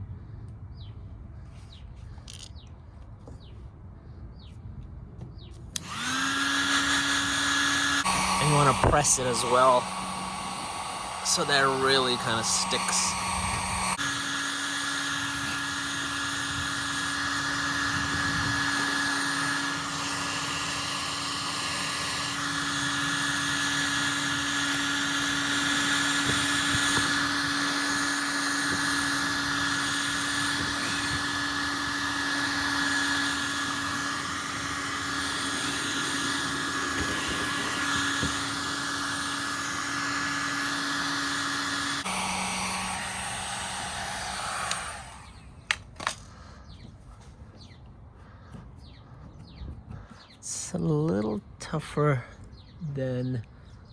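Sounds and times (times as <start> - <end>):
heat gun fan humming: 5.7 - 51.4.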